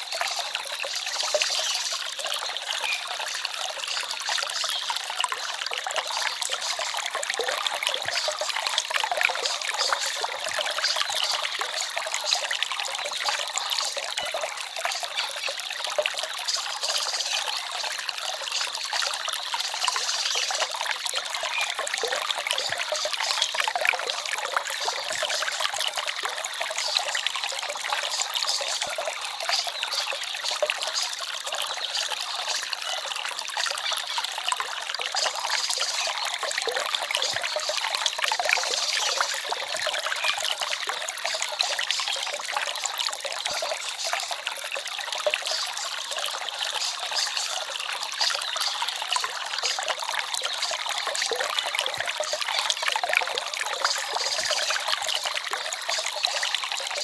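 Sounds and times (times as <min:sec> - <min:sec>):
stream trickling and babbling: 0:00.0 - 0:57.0.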